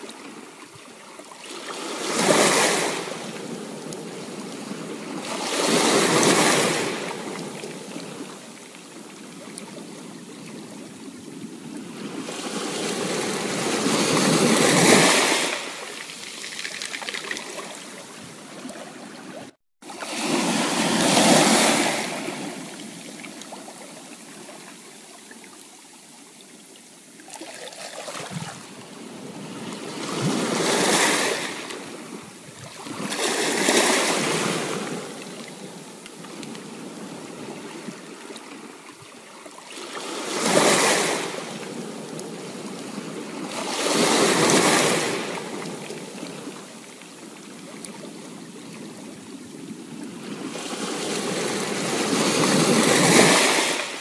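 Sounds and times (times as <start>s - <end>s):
waves washing up a beach: 0.0s - 54.0s.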